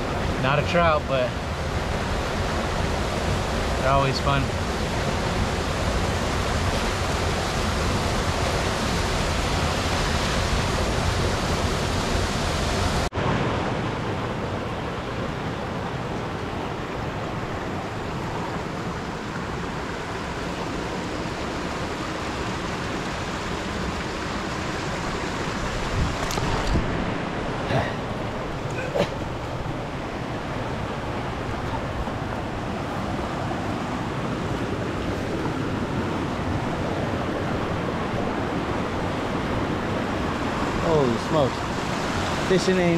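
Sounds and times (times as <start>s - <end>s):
stream rushing over boulders: 0.0s - 42.9s.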